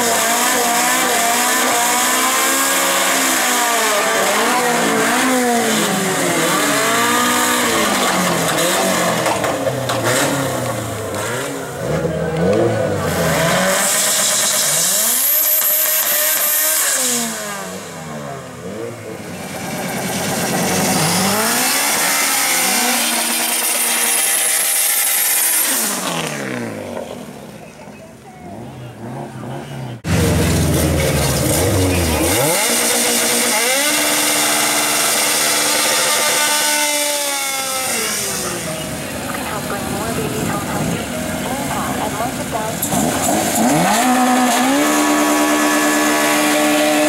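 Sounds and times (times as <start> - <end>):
car engines revving hard: 0.0 - 47.0
spinning tyres hissing: 0.6 - 27.7, 30.0 - 41.8.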